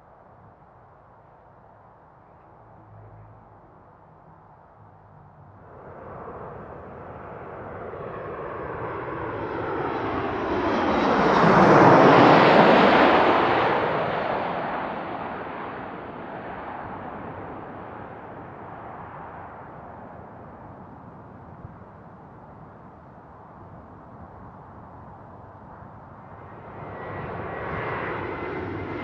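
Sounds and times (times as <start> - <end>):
jet flying low overhead: 0.0 - 29.0.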